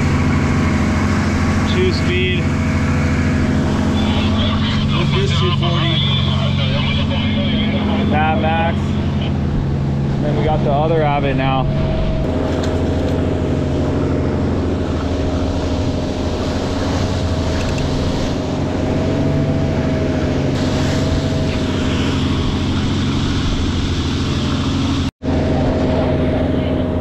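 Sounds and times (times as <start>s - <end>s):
motorboat engine running: 0.0s - 27.0s
water rushing from wake: 0.0s - 27.0s
wind: 0.0s - 27.0s.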